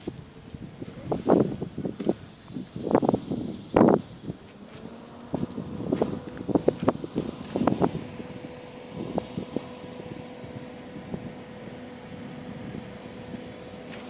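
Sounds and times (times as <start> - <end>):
steady mechanical hum: 0.0 - 14.0
wind on microphone: 0.0 - 14.0.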